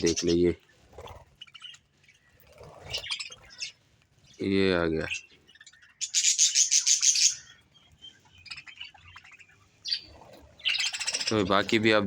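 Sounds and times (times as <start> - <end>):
parrots chirping: 0.0 - 4.4, 5.0 - 12.0.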